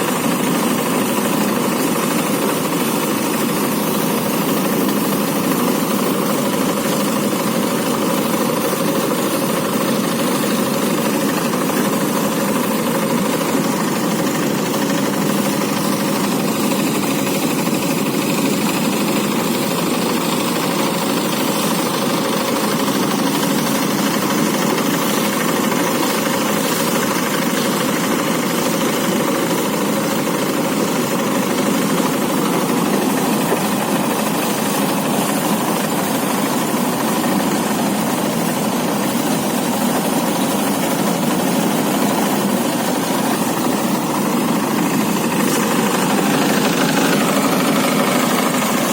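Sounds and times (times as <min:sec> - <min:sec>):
threshing machine running: 0:00.0 - 0:48.9.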